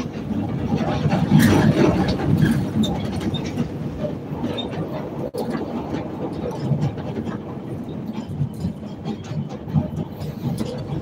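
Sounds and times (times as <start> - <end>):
rumble of wheels on rail: 0.0 - 11.0.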